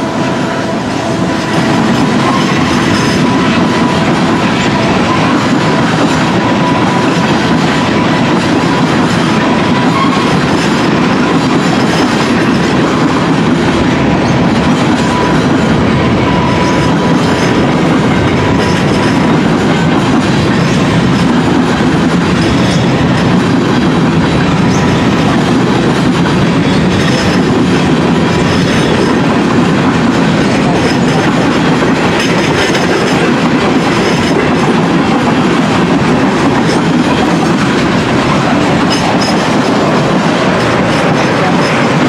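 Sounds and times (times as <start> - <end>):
freight train wheels rumbling: 0.0 - 42.0.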